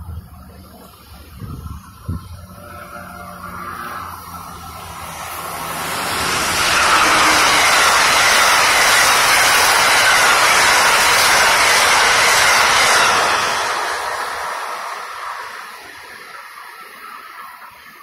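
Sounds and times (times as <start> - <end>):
electric train passing at speed: 0.0 - 18.0.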